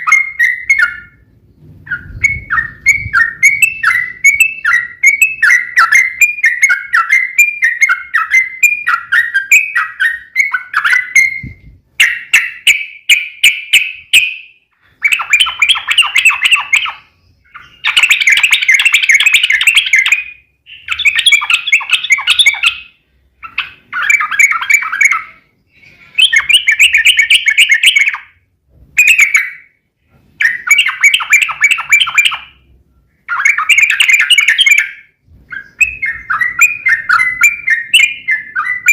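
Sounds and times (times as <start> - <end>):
bird chirping and chattering trills: 0.0 - 28.4, 30.4 - 38.9.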